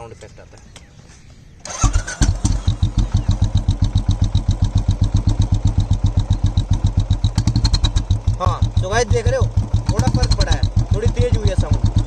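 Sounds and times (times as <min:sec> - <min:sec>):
motorcycle engine idling: 0:01.7 - 0:12.0.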